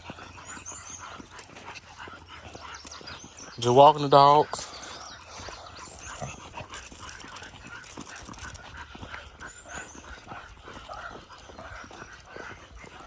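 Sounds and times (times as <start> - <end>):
dogs panting: 0.0 - 13.0
light irregular ticks: 0.0 - 13.0.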